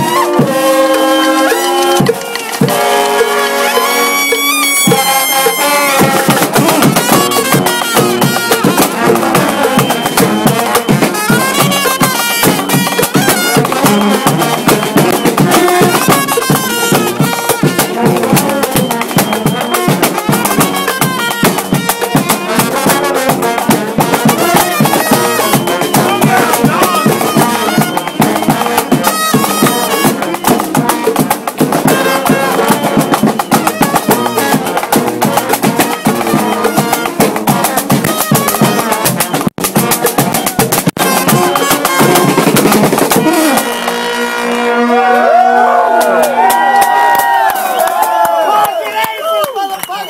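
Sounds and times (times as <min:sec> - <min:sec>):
marching band playing: 0:00.0 - 0:50.0.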